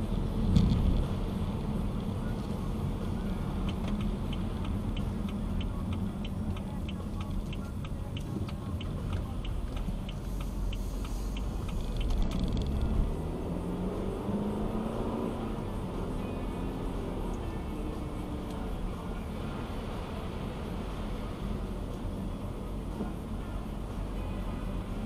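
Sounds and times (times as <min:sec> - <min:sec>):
car engine and tyres on wet road: 0:00.0 - 0:25.0
turn signal ticking: 0:00.0 - 0:25.0.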